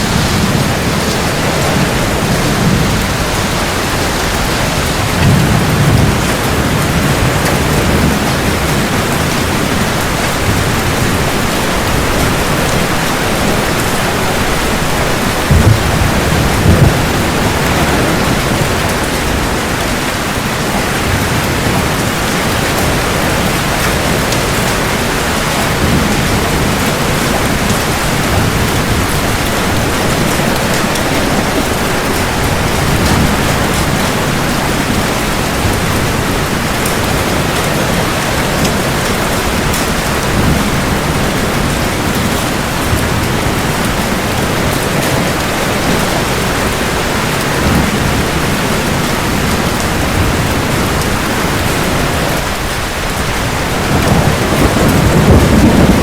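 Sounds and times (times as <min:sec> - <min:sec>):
heavy rain falling: 0:00.0 - 0:56.0
low thunder rumbling: 0:00.0 - 0:56.0.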